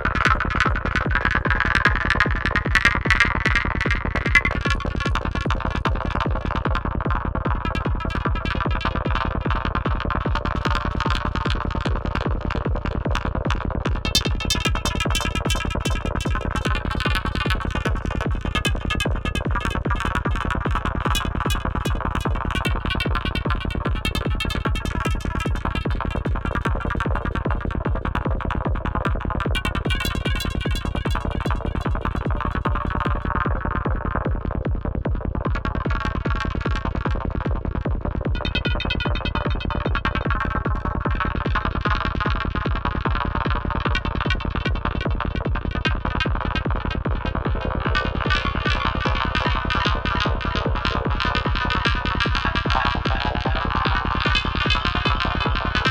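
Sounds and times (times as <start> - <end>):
psytrance kick and bass: 0.0 - 55.9.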